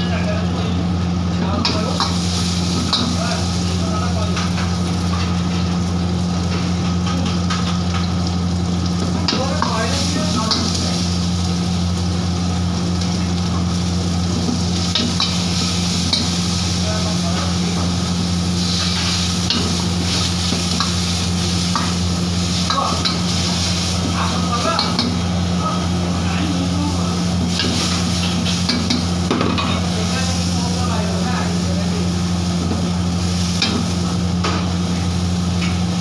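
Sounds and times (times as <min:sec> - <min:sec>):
burner flame: 0:00.0 - 0:36.0
vegetables sizzling in a wok: 0:00.0 - 0:36.0.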